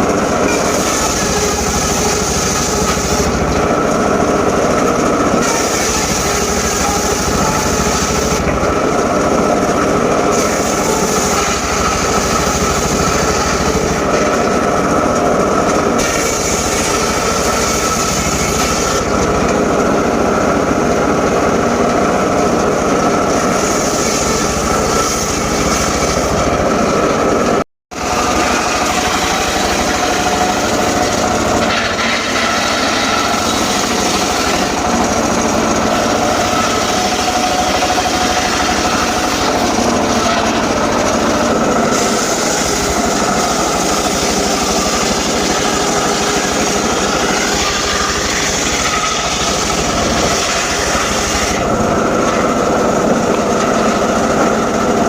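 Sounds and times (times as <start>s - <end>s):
engine drone: 0.0s - 55.0s
saw blade whining: 0.0s - 55.0s.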